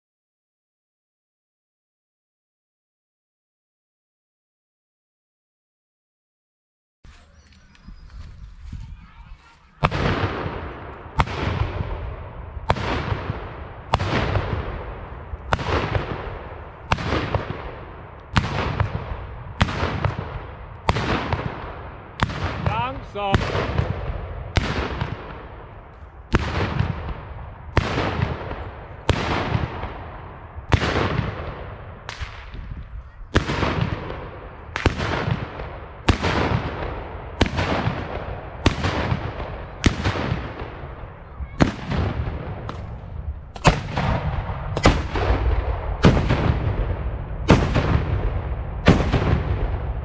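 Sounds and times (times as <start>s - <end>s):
salute guns firing with echo: 9.7s - 50.0s.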